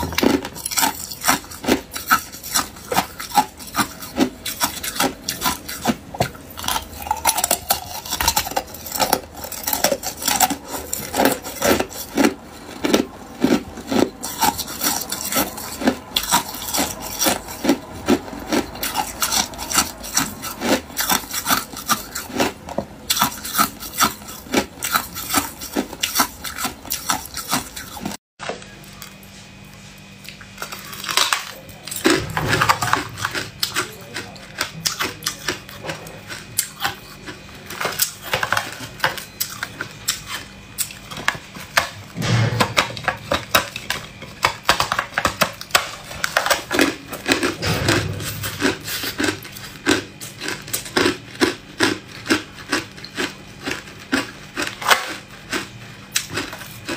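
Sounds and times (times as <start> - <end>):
ice cubes crunching: 0.0 - 28.2, 30.2 - 41.8, 43.2 - 56.9.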